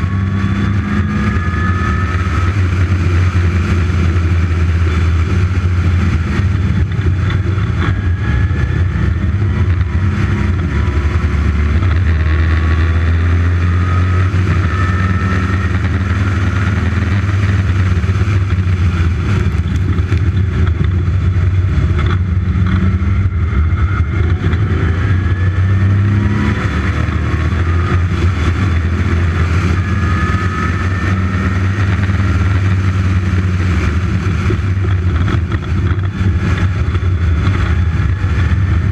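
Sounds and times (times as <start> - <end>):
car engine revving: 0.0 - 38.9
heavy low rumble: 0.0 - 38.9.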